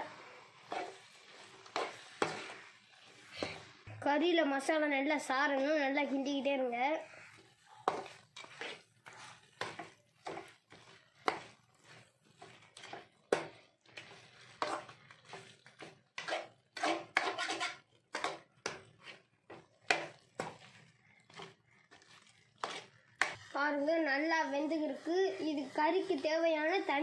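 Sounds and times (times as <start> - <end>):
metal spatula scraping a metal pot: 0.0 - 3.9, 5.4 - 27.0.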